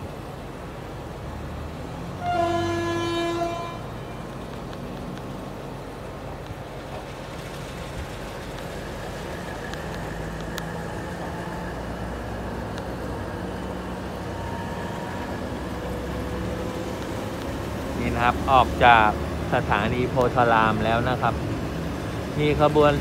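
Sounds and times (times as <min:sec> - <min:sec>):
rolling coaches rumbling: 0:00.0 - 0:23.0
train engine hum: 0:00.0 - 0:23.0.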